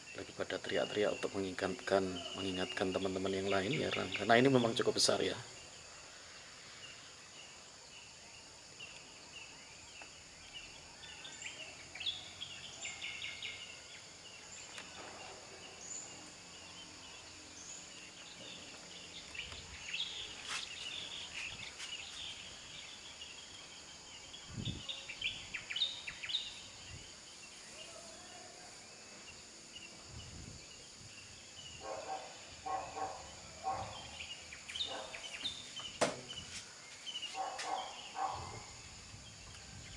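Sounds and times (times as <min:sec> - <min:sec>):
birds chirping: 0:00.0 - 0:39.9
steady high hiss: 0:00.0 - 0:39.9.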